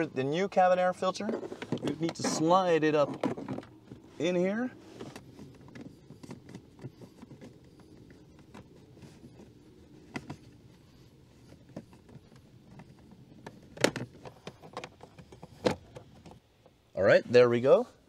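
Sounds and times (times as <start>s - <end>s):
air filter scraping plastic housing: 0.0s - 16.4s.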